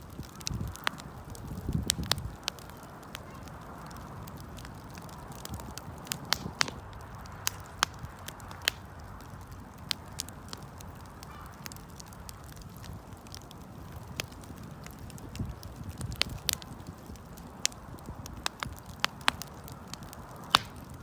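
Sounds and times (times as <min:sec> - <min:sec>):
campfire crackling and popping: 0:00.0 - 0:21.0
low rush of burning: 0:00.0 - 0:21.0.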